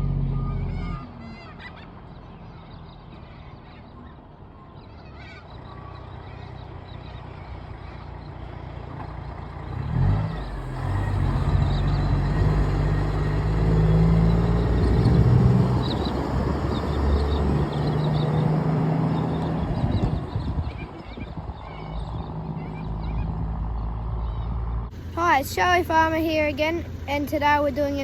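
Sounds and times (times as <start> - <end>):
heavy diesel engine revving: 0.0 - 3.3, 5.6 - 28.0.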